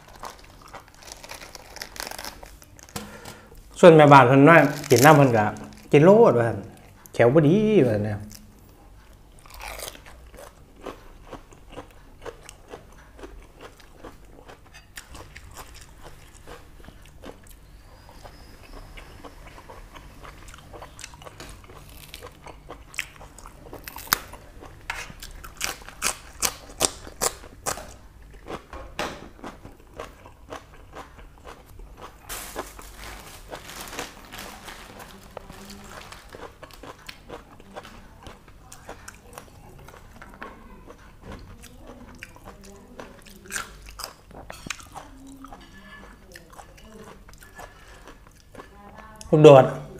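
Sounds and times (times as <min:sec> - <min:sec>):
chewing and crunching: 0:00.0 - 0:03.0, 0:08.3 - 0:28.7, 0:29.3 - 0:49.3.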